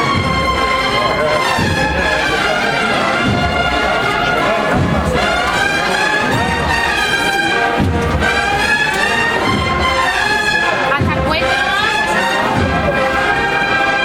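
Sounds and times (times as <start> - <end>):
low drum strokes: 0.0 - 11.8
cornets holding long notes: 0.0 - 14.0.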